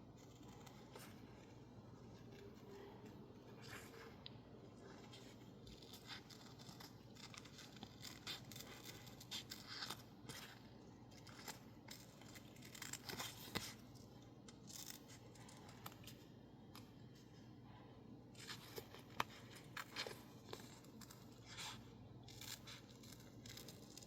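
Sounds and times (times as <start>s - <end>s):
small paper snips and crinkles: 0.1s - 4.2s, 4.9s - 16.2s, 18.4s - 24.0s.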